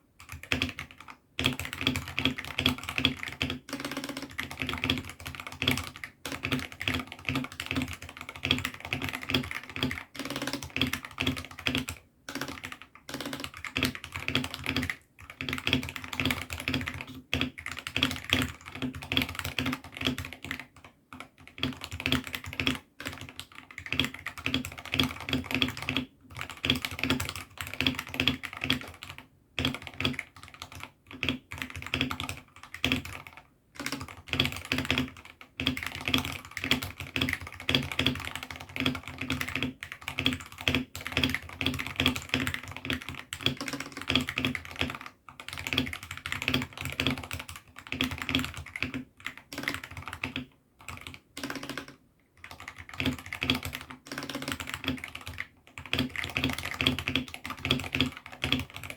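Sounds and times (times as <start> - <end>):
mechanical keyboard typing: 0.2 - 58.9.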